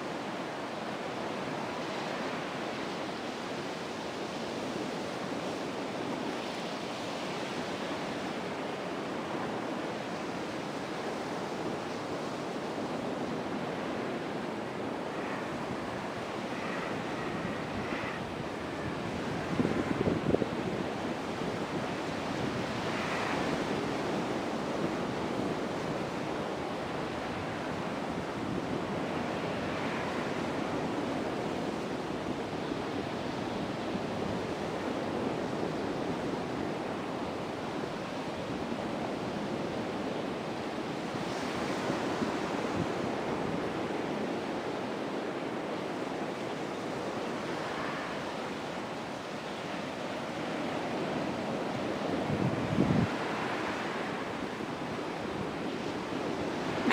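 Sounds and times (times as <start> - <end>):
sea surf washing onto beach: 0.0 - 56.9
wind blowing across microphone: 0.0 - 56.9.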